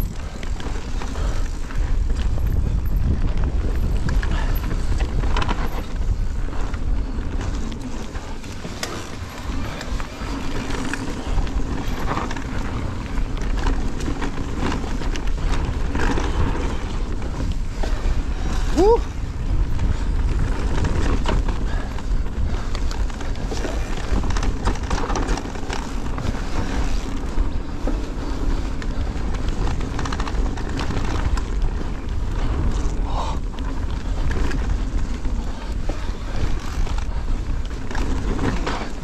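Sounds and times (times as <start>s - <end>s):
bike clicks and rattles: 0.0s - 39.0s
wind rushing over microphone: 0.0s - 39.0s.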